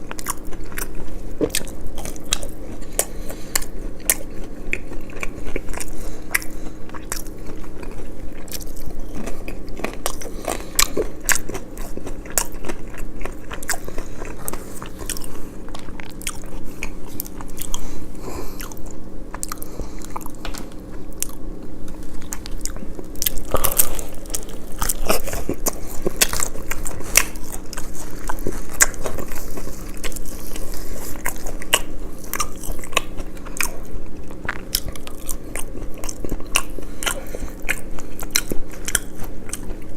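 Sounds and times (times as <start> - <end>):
crunchy bites and chewing: 0.0 - 39.9.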